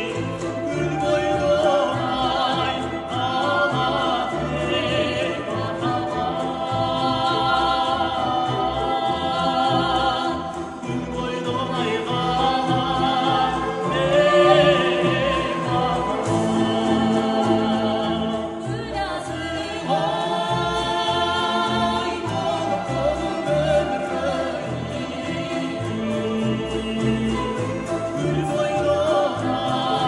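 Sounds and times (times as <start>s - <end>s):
folk instrument ensemble: 0.0s - 30.0s
man and woman singing: 0.0s - 30.0s.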